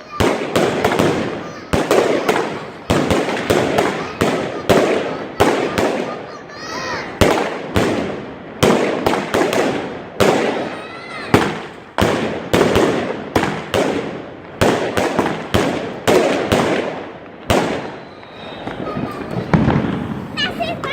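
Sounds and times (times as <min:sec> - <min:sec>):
fireworks bangs: 0:00.0 - 0:20.9.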